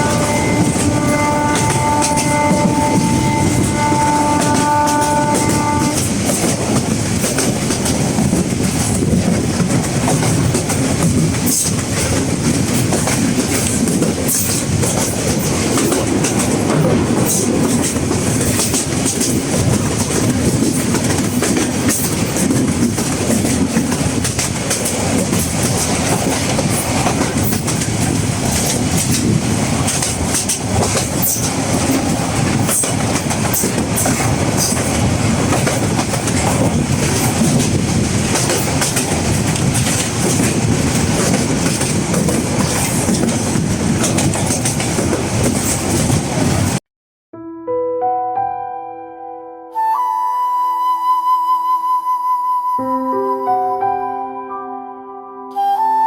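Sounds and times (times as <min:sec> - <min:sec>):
train wheels rumbling on rails: 0:00.0 - 0:46.8.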